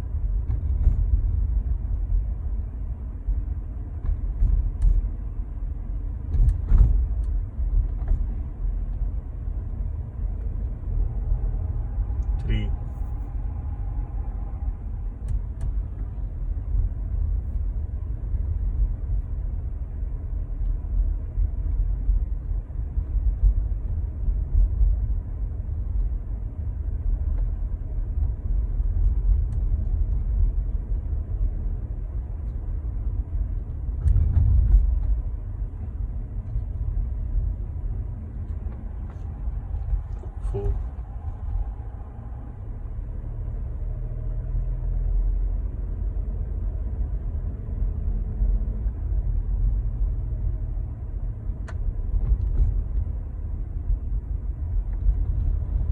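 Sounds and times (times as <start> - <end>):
car cabin low rumble: 0.0 - 55.9.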